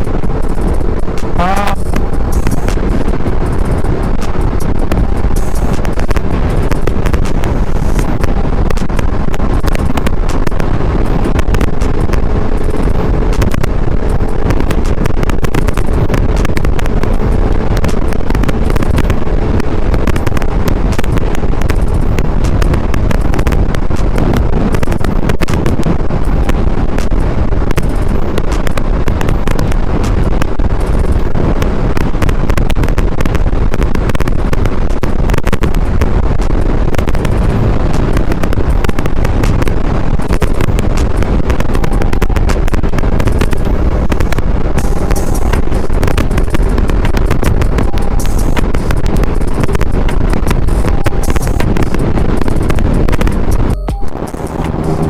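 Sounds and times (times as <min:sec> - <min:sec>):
motorcycle riding at speed: 0:00.0 - 0:55.0
wind buffeting the microphone: 0:00.0 - 0:55.0.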